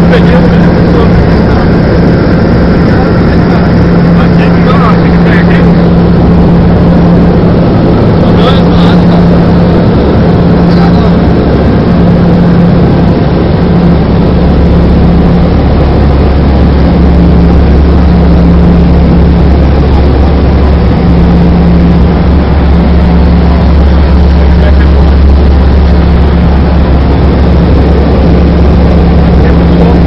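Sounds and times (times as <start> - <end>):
plane engines droning in cabin: 0.0 - 30.0.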